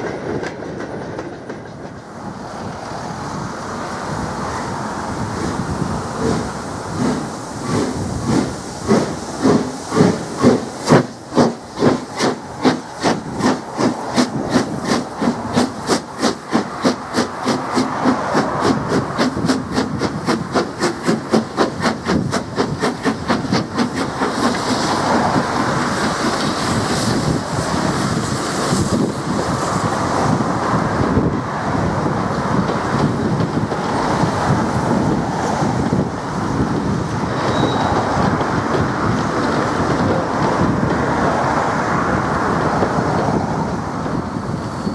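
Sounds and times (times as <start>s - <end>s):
rumble of coaches rolling: 0.0s - 44.9s
steam locomotive chuffing: 3.2s - 44.9s.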